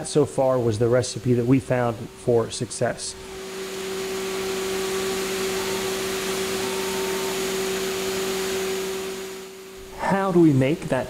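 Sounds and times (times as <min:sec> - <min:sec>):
machining center cutting hiss: 0:00.0 - 0:11.0
spindle hum: 0:00.0 - 0:11.0.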